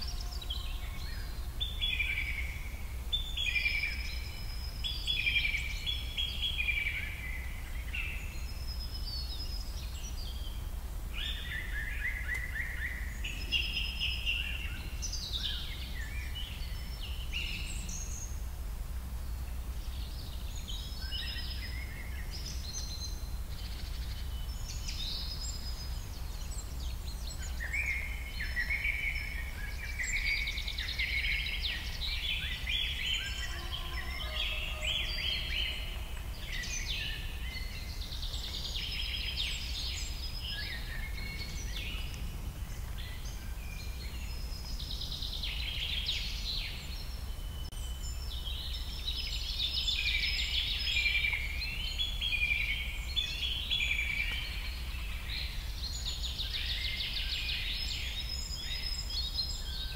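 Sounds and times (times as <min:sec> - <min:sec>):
birds singing and chirping: 0:00.0 - 0:59.9.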